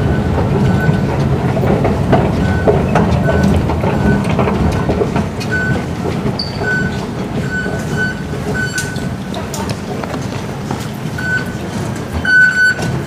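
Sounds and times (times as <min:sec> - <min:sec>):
footsteps: 0:00.0 - 0:13.0
low train rumble: 0:00.0 - 0:13.0.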